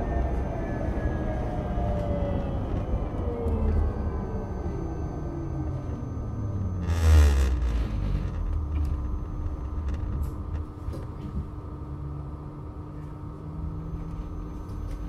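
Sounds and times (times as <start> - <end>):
tram rumbling: 0.0 - 12.8
electrical hums: 0.0 - 15.0.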